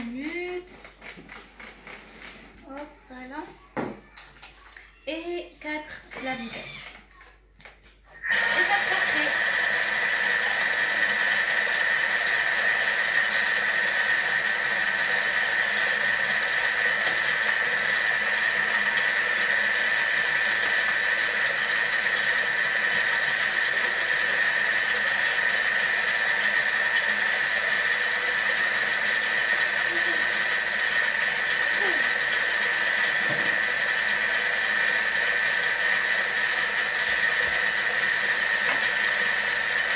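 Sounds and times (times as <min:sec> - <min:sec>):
food processor blending: 0:00.0 - 0:02.4, 0:08.1 - 0:39.9.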